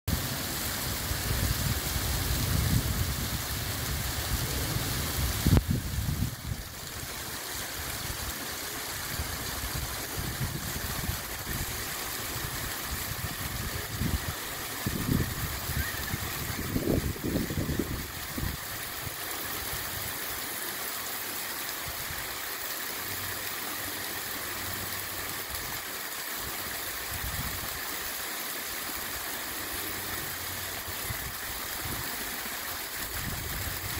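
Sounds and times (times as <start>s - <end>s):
waterfall splashing into pool: 0.1s - 33.9s.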